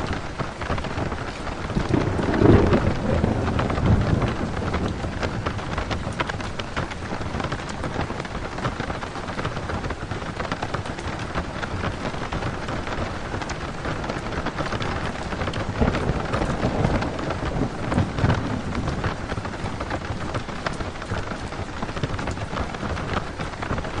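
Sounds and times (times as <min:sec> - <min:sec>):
rain pattering on a van roof: 0:00.0 - 0:24.0.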